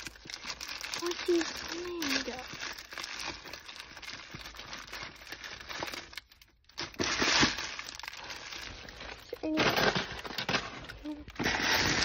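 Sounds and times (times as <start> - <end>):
plastic crinkling and rustling: 0.0 - 12.0.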